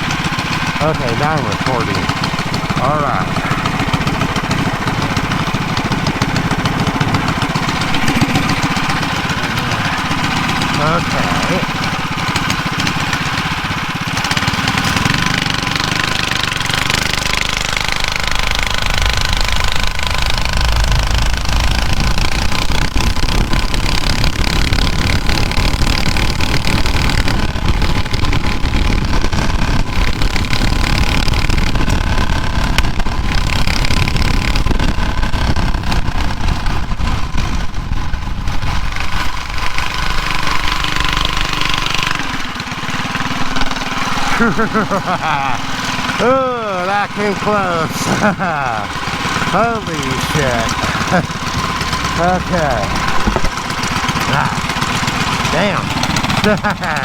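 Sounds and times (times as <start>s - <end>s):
mini bike engine running: 0.0s - 57.0s.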